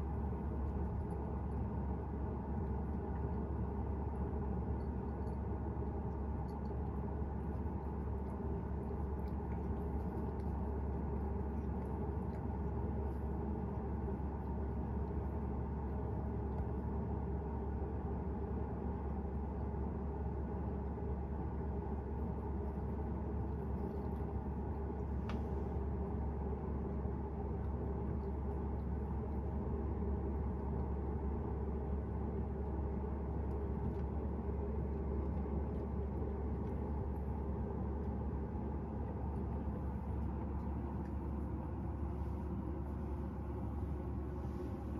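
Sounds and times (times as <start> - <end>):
low rumble: 0.0 - 44.9.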